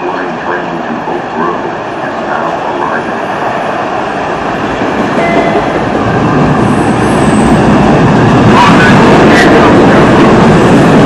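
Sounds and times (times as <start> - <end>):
subway train rumbling past: 0.0 - 11.0.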